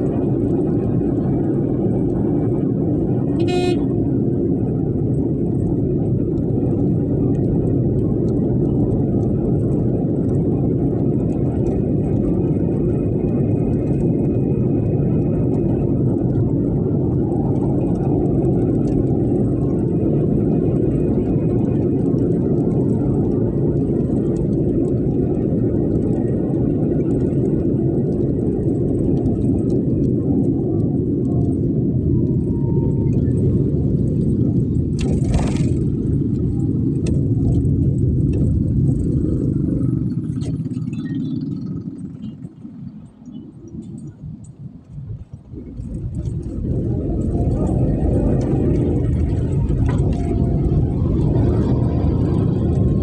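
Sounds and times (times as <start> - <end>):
steady low rumbling noise: 0.0 - 53.0.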